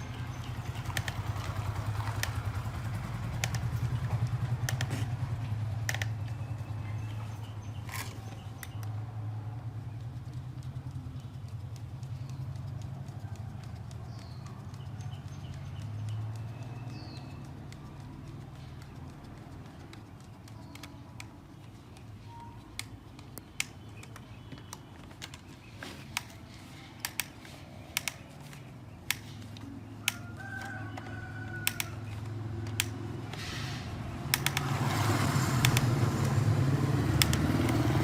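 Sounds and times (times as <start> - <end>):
hand tools clicking and tapping: 0.0 - 38.0.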